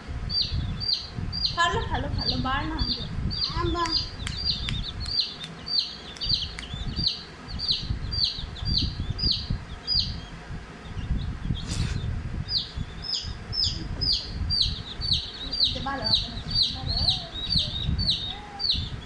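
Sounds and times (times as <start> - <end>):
chicks peeping: 0.0 - 19.0
low rumble: 0.0 - 19.0.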